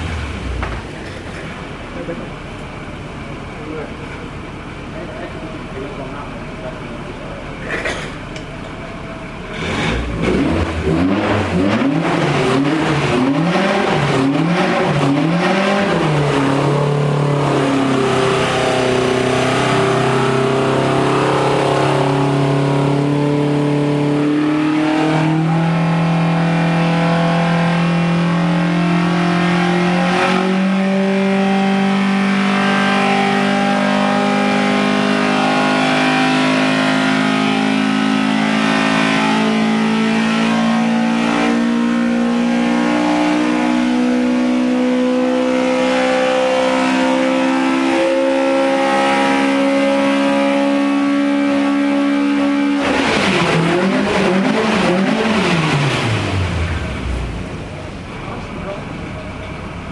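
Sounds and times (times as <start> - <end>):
racing engine revving: 9.4 - 59.9.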